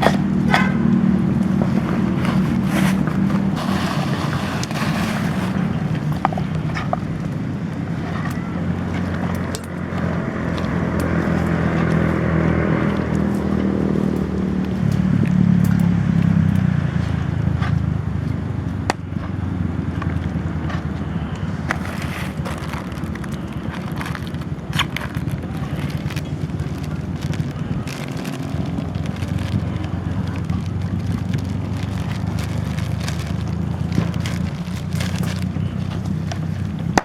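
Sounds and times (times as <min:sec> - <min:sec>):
sharp crackles and clicks: 0:00.0 - 0:16.7, 0:18.6 - 0:37.0
engine running: 0:00.0 - 0:37.0.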